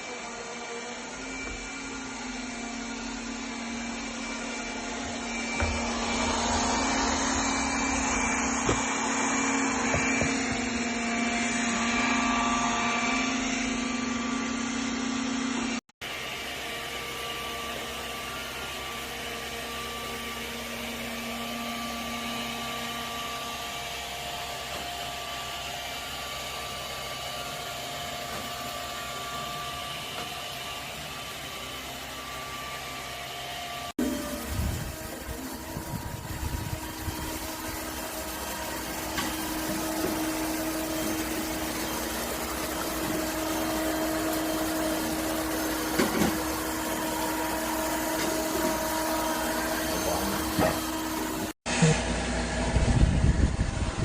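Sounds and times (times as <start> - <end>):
robot vacuum motor hum: 0.0 - 54.0.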